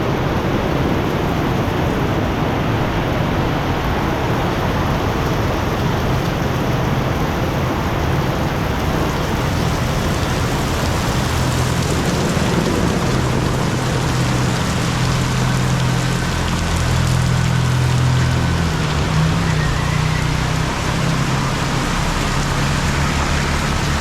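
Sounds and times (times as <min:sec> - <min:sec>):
heavy rain: 0:00.0 - 0:24.0
vehicle engines humming: 0:00.0 - 0:24.0.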